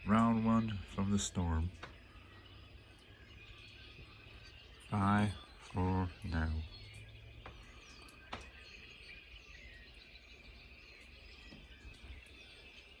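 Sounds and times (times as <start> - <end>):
faint high chirps: 0.0 - 13.0.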